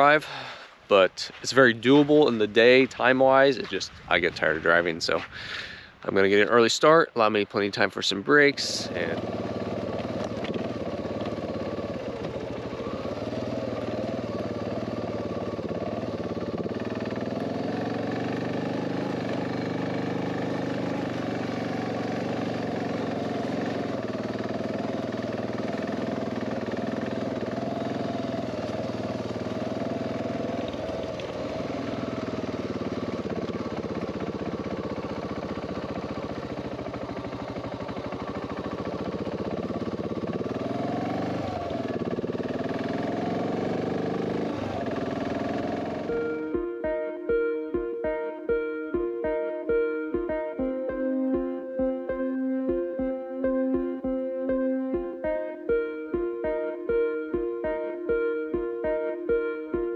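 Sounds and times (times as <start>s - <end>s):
motorcycle engine running: 0.0s - 0.7s, 8.4s - 47.0s, 49.2s - 59.5s.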